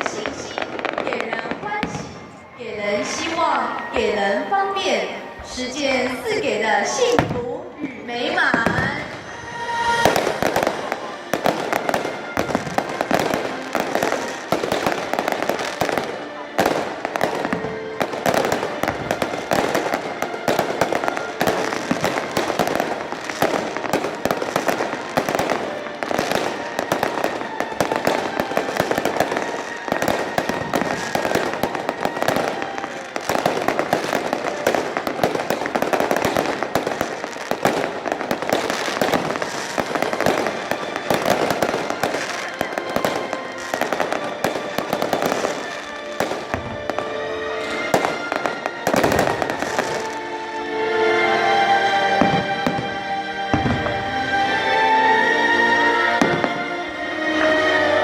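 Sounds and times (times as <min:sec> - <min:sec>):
fireworks bangs and crackles: 0:00.0 - 0:51.0, 0:51.6 - 0:54.8, 0:56.2 - 0:58.0
music playing: 0:00.0 - 0:58.0.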